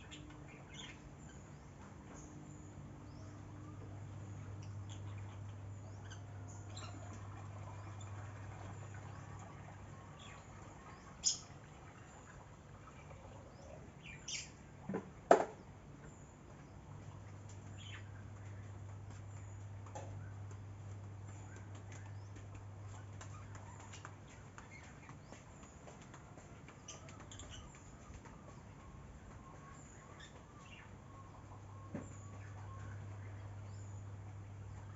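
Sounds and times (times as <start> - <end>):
birds chirping: 0.0 - 34.9
steady low hum: 0.0 - 34.9.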